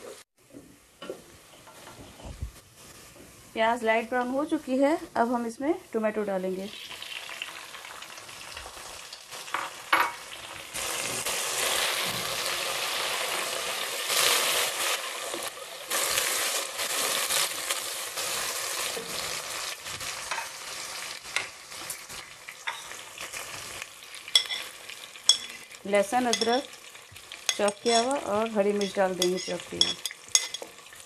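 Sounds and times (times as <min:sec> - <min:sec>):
tomatoes sizzling in hot oil: 0:01.4 - 0:31.0.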